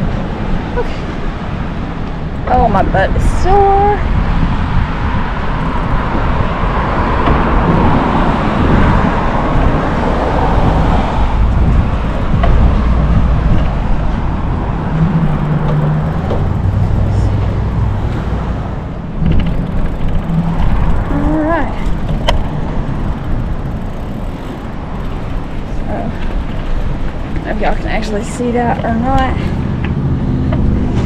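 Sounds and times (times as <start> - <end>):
wind rumbling on microphone: 0.0 - 31.0
low hum: 5.2 - 31.0.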